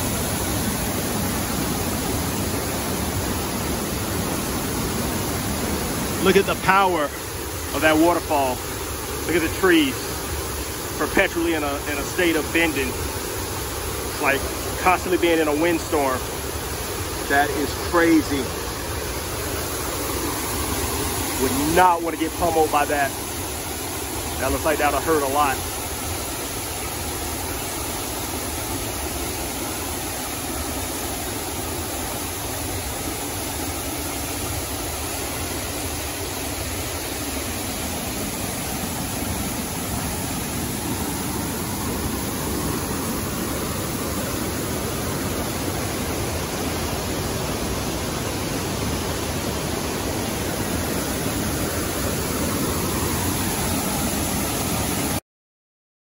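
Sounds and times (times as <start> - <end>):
waterfall rushing: 0.0 - 55.2.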